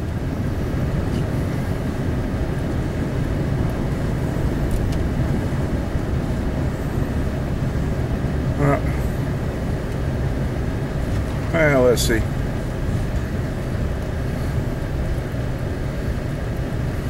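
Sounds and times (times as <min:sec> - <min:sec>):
truck cab driving rumble: 0:00.0 - 0:17.0.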